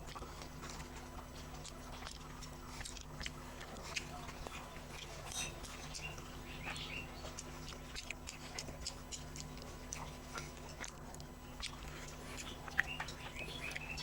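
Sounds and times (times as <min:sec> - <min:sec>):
low steady hum: 0:00.0 - 0:14.0
person chewing: 0:00.0 - 0:14.0.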